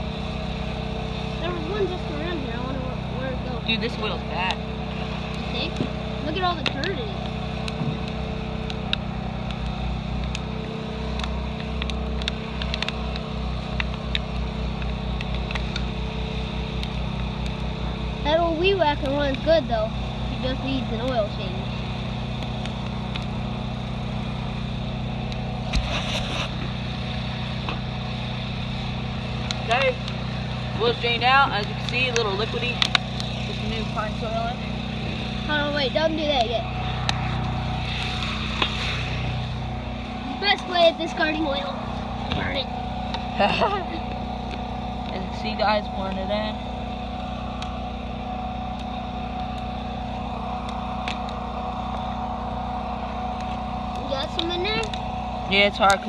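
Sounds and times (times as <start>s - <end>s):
generator engine droning: 0.0s - 56.0s.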